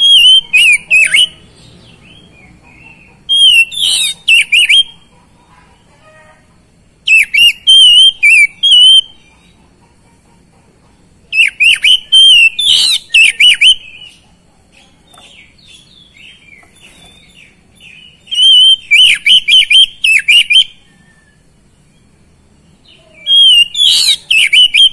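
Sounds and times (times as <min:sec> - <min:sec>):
bird singing whistled trills: 0:00.0 - 0:05.0, 0:07.0 - 0:09.3, 0:11.3 - 0:14.2, 0:15.2 - 0:24.9
soft bird chattering: 0:00.0 - 0:06.4, 0:07.0 - 0:24.9.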